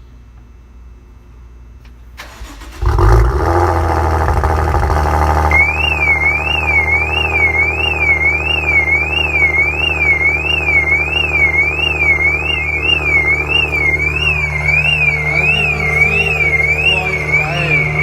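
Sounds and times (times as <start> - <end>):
car engine idling: 2.3 - 18.0
car alarm siren wailing: 3.4 - 18.0.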